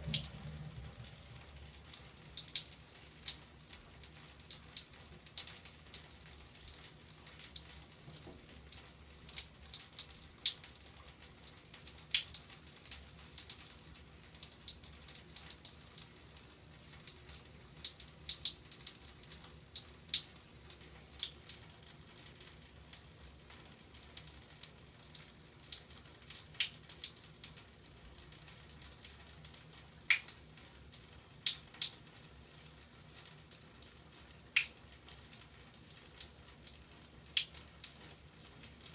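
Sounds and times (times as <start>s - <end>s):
water trickling and dripping: 0.0s - 38.9s.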